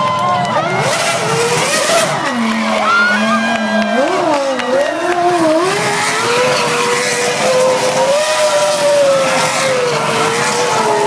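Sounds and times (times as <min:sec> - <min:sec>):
racing car engine at high revs: 0:00.0 - 0:11.0
spinning tyres hissing: 0:00.8 - 0:11.0.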